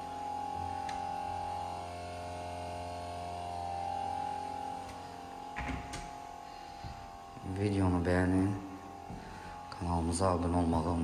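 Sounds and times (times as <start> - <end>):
low drone: 0.0 - 11.0
steady hum of held tones: 0.0 - 11.0.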